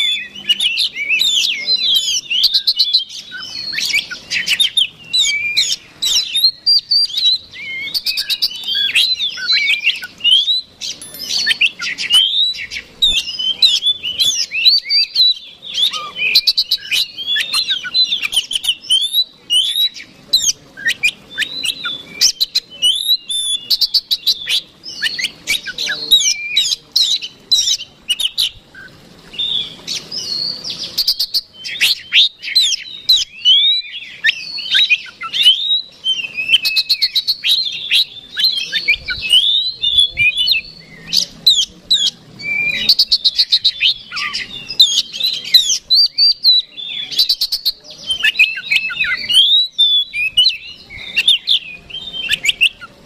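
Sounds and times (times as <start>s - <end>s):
bird singing whistles and chirps: 0.0s - 53.0s.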